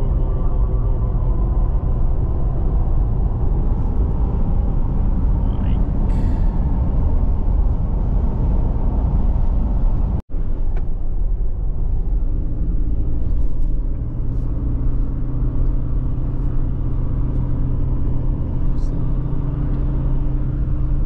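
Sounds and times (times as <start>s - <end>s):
car engine and tyres rumbling: 0.0s - 21.0s.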